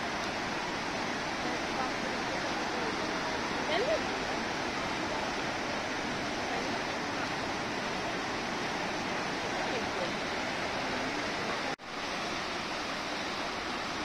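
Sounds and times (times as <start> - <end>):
waterfall rushing down rocks: 0.0 - 14.0.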